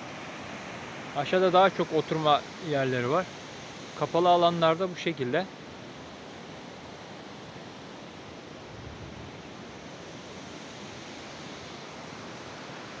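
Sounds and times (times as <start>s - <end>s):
creek and waterfall rushing: 0.0s - 13.0s.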